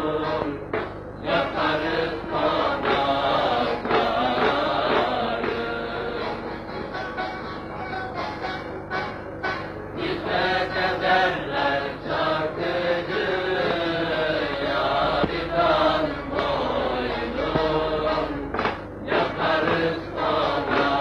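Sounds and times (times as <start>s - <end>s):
choir singing held notes: 0.0s - 7.7s, 8.3s - 21.0s
steady low hum: 0.0s - 21.0s.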